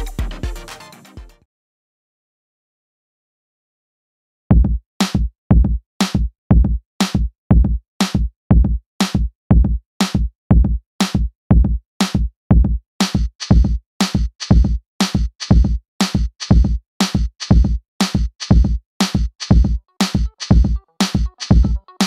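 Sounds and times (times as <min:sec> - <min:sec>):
electronic music with drum-machine beat: 0:00.0 - 0:01.4, 0:04.5 - 0:22.0.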